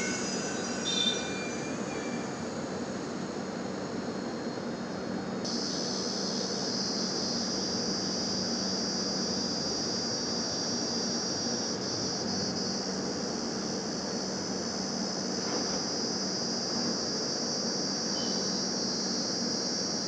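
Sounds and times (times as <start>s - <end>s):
steady high-pitched hiss: 0.0s - 20.0s.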